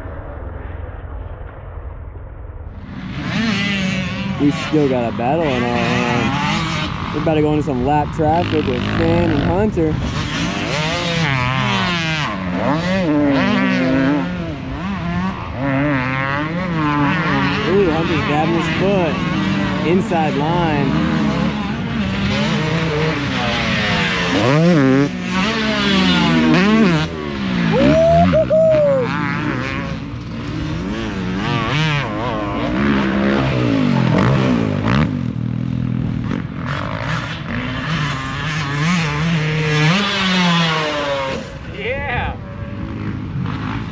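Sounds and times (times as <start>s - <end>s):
dirt bike engine revving: 2.8s - 43.9s
second dirt bike engine: 2.9s - 43.9s.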